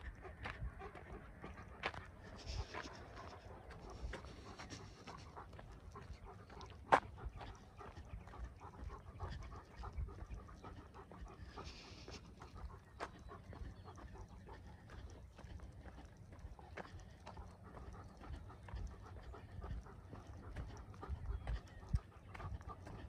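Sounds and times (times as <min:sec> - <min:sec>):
footsteps on dirt road: 0:00.0 - 0:23.0.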